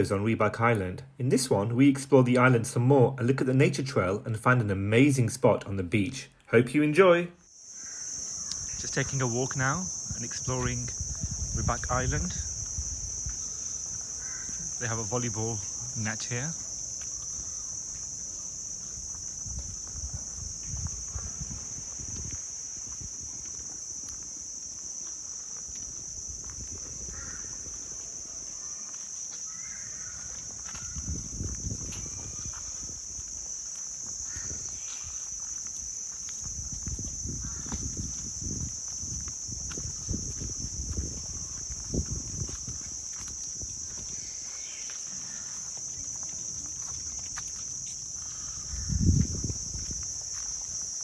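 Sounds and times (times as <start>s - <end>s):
high-pitched insect chorus: 0.0s - 51.0s.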